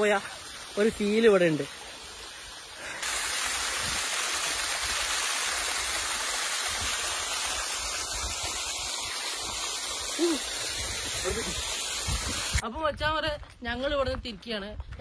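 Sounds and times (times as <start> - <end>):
waterfall spilling over rocks: 0.0 - 12.6.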